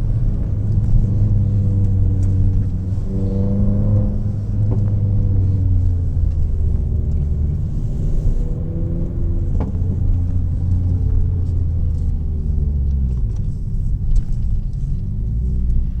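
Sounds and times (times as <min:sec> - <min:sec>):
car exhaust droning: 0:00.0 - 0:16.0.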